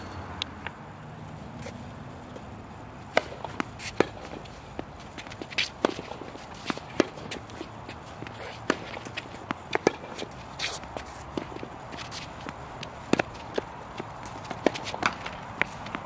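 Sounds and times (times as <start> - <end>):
shoes scuffing on court: 1.3 - 16.0
tennis ball bouncing on court: 1.6 - 16.0
tennis ball struck by rackets: 3.0 - 16.0.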